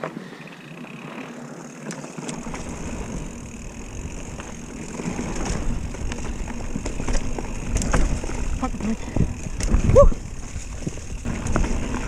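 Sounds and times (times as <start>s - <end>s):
bike clicks and rattles: 0.0s - 12.0s
bike tyre and drivetrain noise: 0.0s - 12.0s.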